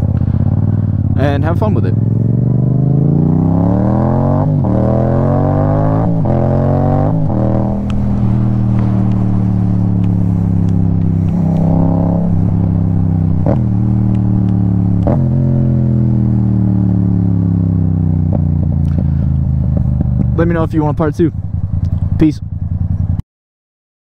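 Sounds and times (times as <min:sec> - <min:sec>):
motorcycle engine accelerating: 0:00.0 - 0:23.2.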